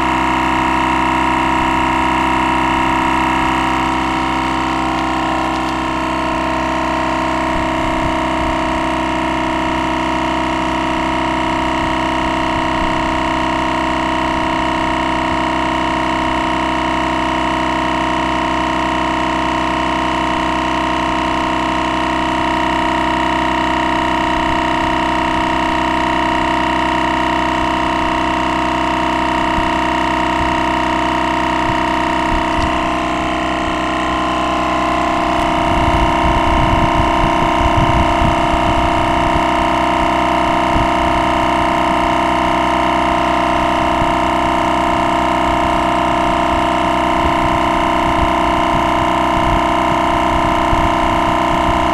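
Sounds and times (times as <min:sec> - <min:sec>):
tire inflator droning: 0:00.0 - 0:51.9.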